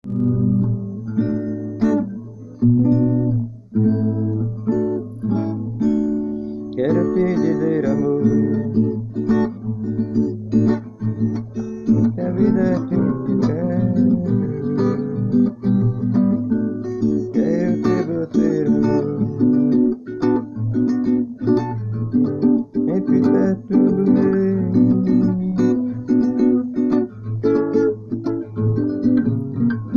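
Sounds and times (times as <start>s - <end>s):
guitar plucked and strummed chords: 0.0s - 29.9s
higher guitar melody line: 0.0s - 29.9s.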